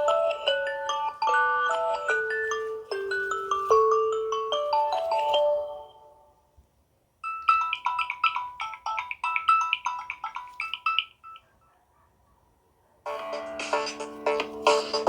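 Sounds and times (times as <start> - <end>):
phone ringtone melody: 0.0 - 6.3, 7.2 - 11.6, 13.1 - 15.0.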